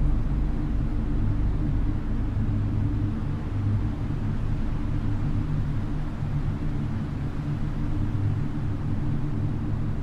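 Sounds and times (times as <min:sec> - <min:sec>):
low ambient drone: 0:00.0 - 0:10.0.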